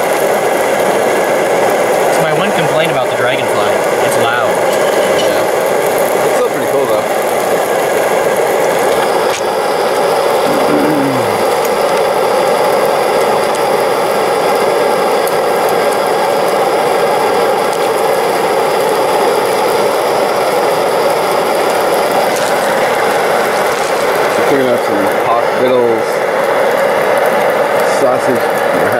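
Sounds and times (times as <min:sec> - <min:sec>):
camp stove burner roaring: 0:00.0 - 0:28.9.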